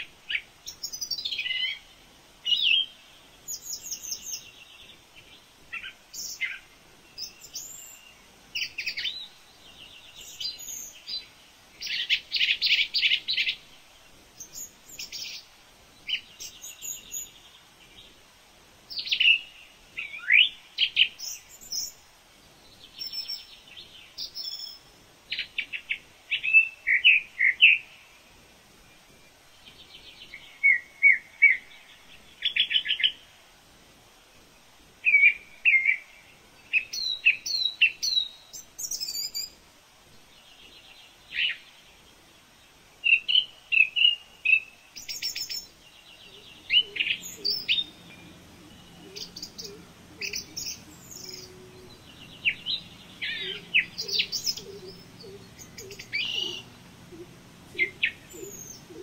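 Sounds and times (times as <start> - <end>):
birds chirping and trilling: 0.0 - 33.4, 34.3 - 39.6, 40.2 - 59.0.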